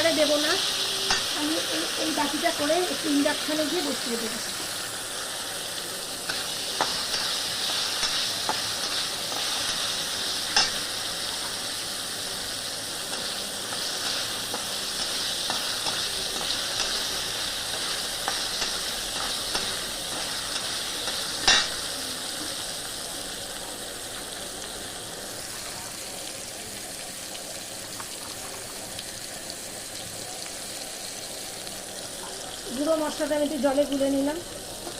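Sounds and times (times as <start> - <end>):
food sizzling in oil: 0.0 - 34.9.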